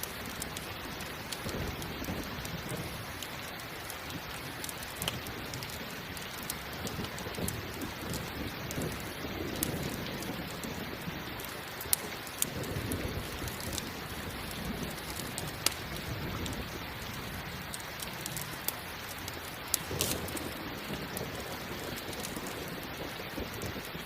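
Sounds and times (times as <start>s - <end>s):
campfire crackling pops: 0.0s - 24.0s
steady rain: 0.0s - 24.0s
low rumbles of thunder: 0.8s - 24.0s.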